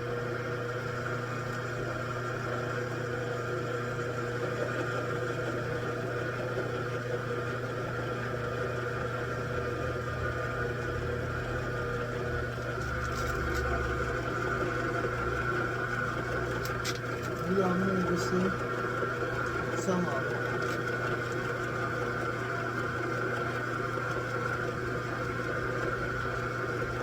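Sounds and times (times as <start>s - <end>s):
machine tool motor hum and whine: 0.0s - 27.0s.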